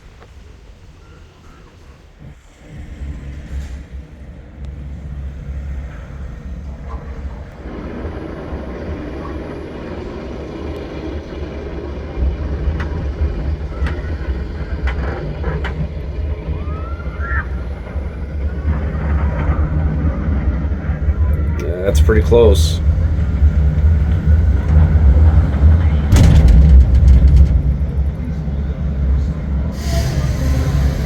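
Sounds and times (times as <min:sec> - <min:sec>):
cable car rumbling: 0:00.0 - 0:31.0.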